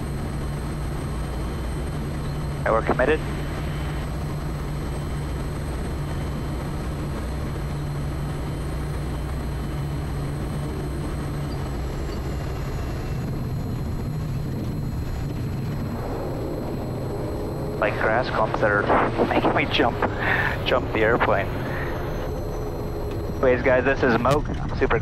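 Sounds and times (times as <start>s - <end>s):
faint high whine: 0.0s - 25.0s
propeller plane engine droning: 0.0s - 25.0s.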